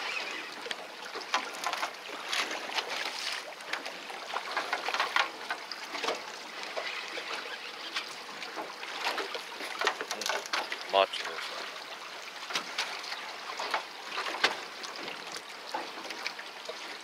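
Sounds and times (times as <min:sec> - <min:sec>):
water lapping against boat hull: 0:00.0 - 0:17.0.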